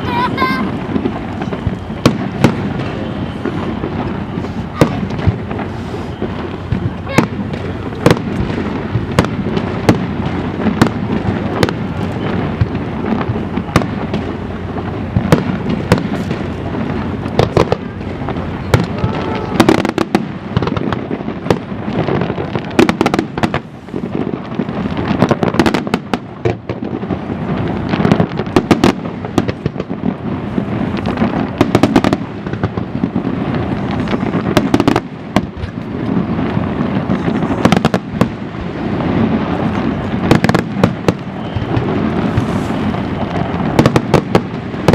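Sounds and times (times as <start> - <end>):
fireworks shells bursting: 0.0 - 44.9.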